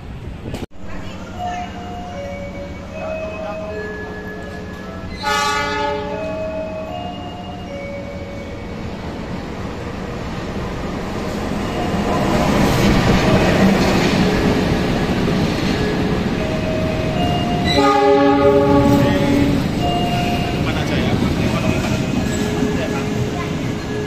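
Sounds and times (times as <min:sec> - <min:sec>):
diesel locomotive and coaches rumbling: 0:00.0 - 0:24.0.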